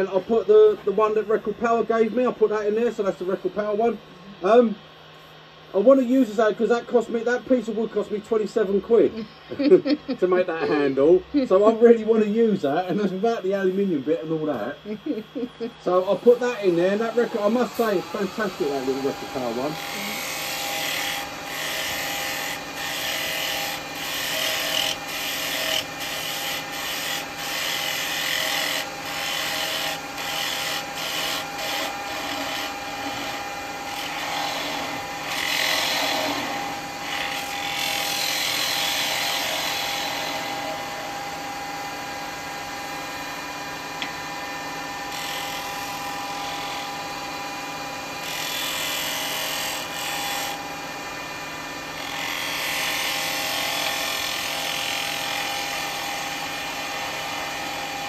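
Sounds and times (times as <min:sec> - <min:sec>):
wood lathe motor whine: 0:00.0 - 0:58.0
tool cutting spinning wood: 0:05.8 - 0:58.0.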